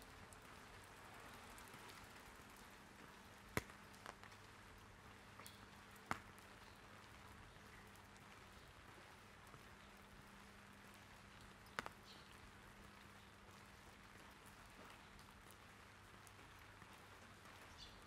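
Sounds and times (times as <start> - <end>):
light rain on an umbrella: 0.0 - 18.0.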